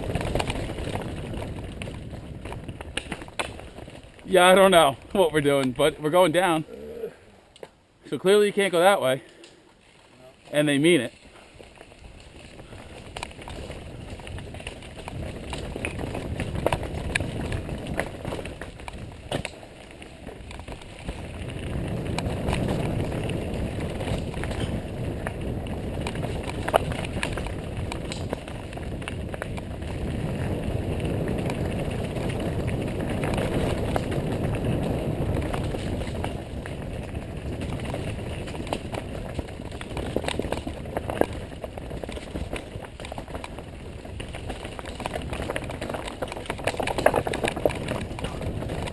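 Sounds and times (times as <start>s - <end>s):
bike rattling over rough ground: 0.0s - 48.9s
bike tyres rumbling: 0.0s - 48.9s.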